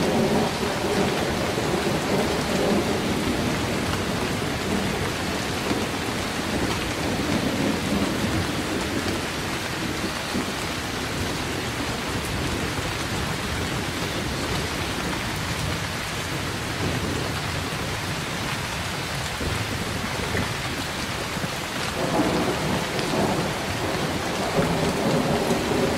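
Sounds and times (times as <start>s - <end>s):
heavy rain falling: 0.0s - 25.9s
low rolling thunder: 0.0s - 25.9s.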